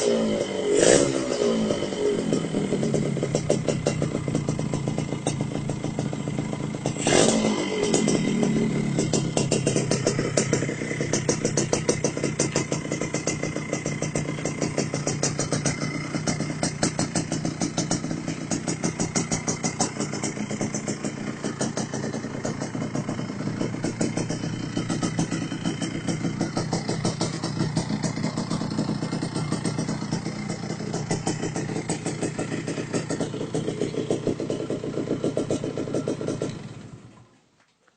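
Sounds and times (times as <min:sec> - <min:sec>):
motorcycle engine idling: 0:00.0 - 0:37.3.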